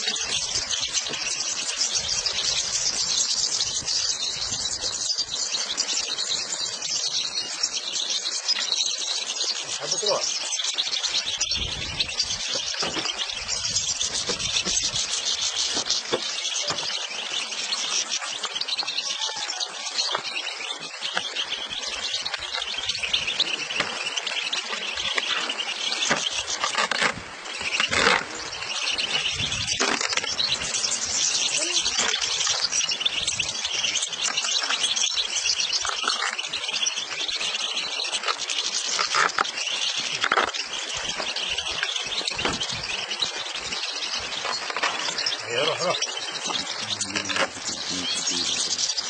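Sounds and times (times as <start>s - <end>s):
flock of finches twittering: 0.0s - 49.0s.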